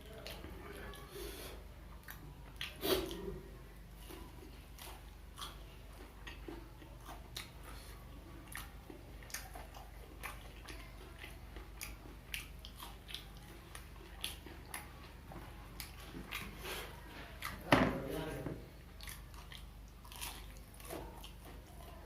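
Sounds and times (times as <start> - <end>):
crunchy chewing: 1.9 - 17.7, 18.8 - 22.0.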